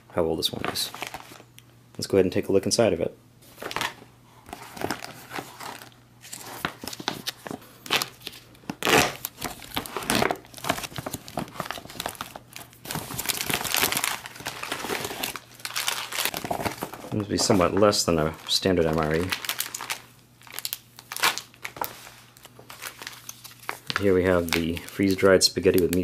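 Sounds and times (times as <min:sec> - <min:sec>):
plastic packaging crinkling and tearing: 0:00.6 - 0:01.5, 0:03.5 - 0:26.0.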